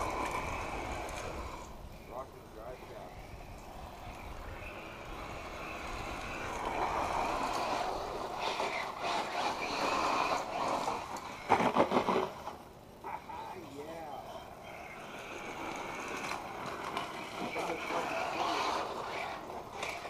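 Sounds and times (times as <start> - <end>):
rc car motor whine: 0.0 - 20.0
tyres on gravel: 0.0 - 20.0.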